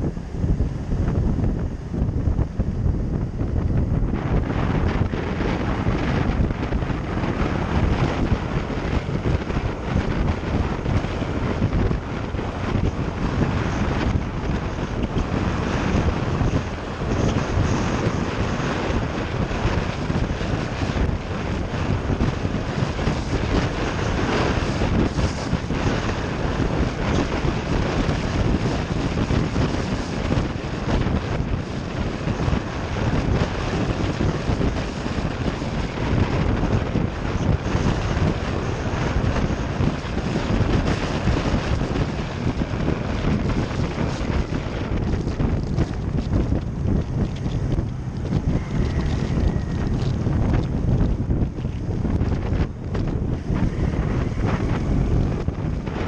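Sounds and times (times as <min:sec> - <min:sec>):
motorcycle engine: 0:00.0 - 0:56.0
road noise: 0:00.0 - 0:56.0
wind buffeting microphone: 0:00.0 - 0:56.0.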